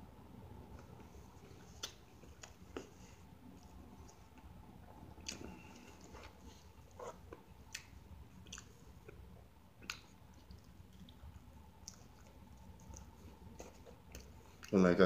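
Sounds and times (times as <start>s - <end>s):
low steady hum: 0.0s - 15.0s
chewing and mouth smacks: 0.8s - 4.5s, 5.1s - 14.8s.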